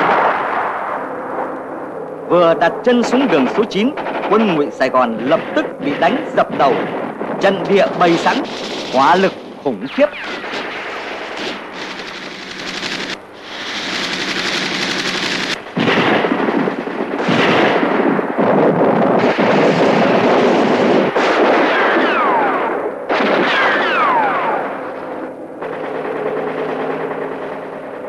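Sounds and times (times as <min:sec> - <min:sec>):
machine-gun and rifle fire: 0:00.0 - 0:00.9, 0:03.0 - 0:28.0
steady hum: 0:00.0 - 0:28.0
blasts: 0:02.2 - 0:28.0.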